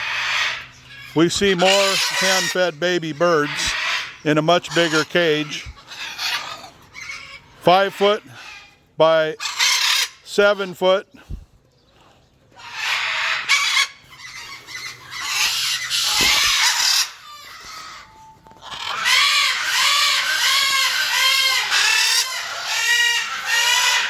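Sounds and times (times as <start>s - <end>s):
macaws squawking: 0.0s - 11.0s, 12.5s - 24.0s.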